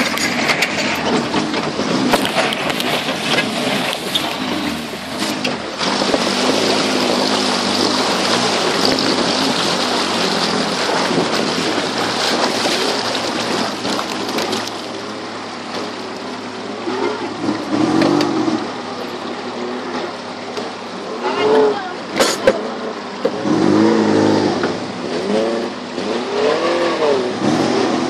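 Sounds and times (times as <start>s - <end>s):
off-road vehicle engine running: 0.0s - 28.0s
water rushing and splashing: 0.0s - 28.0s.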